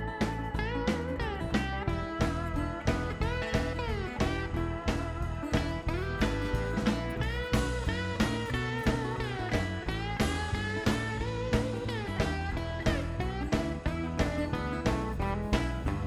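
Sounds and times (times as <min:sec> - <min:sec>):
blues-rock music with lead guitar: 0:00.0 - 0:16.0.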